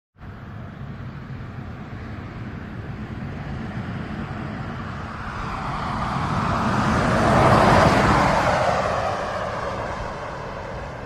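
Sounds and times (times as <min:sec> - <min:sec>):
car passing on highway: 0:00.2 - 0:11.0.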